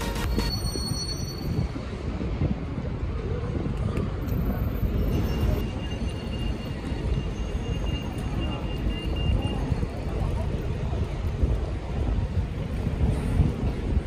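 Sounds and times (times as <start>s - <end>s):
low rumble of traffic and buses: 0.0s - 14.0s.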